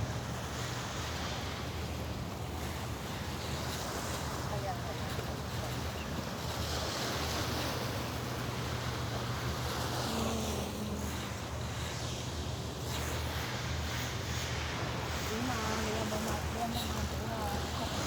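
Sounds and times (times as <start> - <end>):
sea surf: 0.0 - 18.0.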